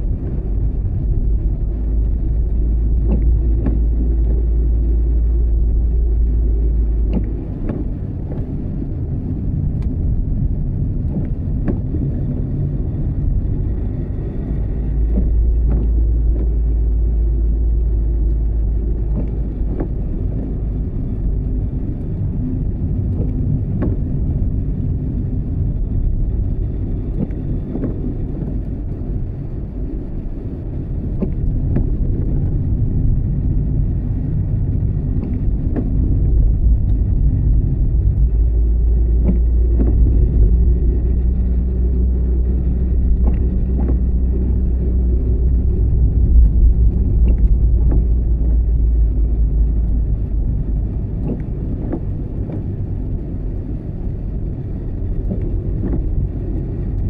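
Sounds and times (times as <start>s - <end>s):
low rumble: 0.0s - 57.0s
rain: 0.0s - 57.0s.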